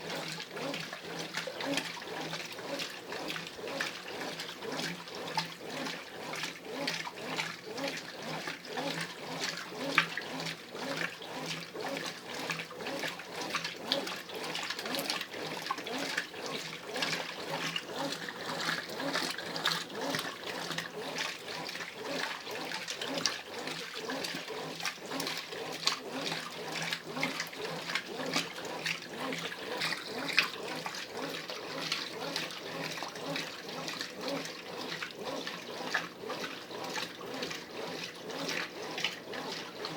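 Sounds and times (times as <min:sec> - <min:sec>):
washing machine water sloshing: 0:00.0 - 0:39.9.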